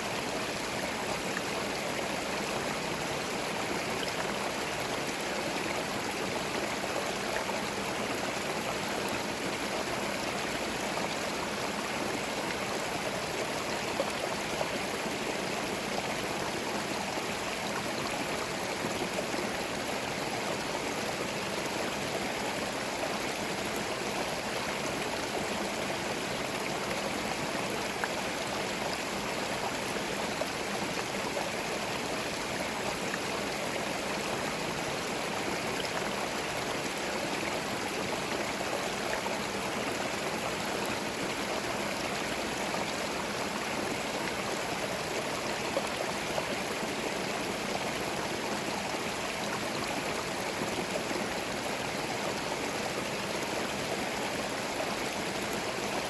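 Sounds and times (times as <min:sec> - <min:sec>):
stream flowing over stones: 0:00.0 - 0:56.0.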